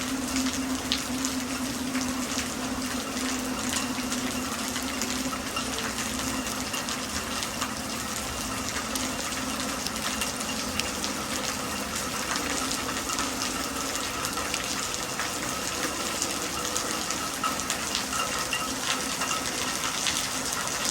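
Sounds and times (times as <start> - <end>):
soft rain falling: 0.0 - 20.9.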